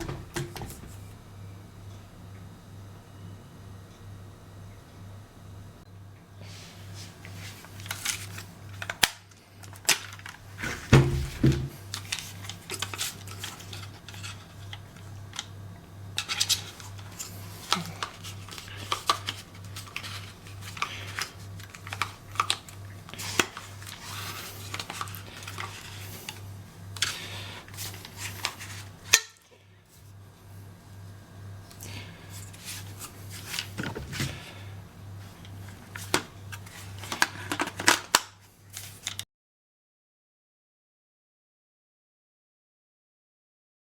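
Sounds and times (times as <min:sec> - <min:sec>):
low steady hum: 0:00.0 - 0:39.2.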